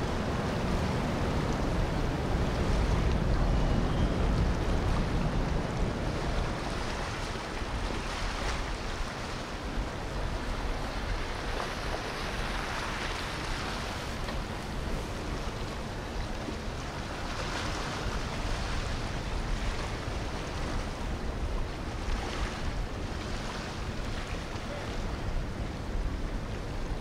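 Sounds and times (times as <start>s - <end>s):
boat engine low rumble: 0.0s - 27.0s
wind on microphone: 0.0s - 27.0s.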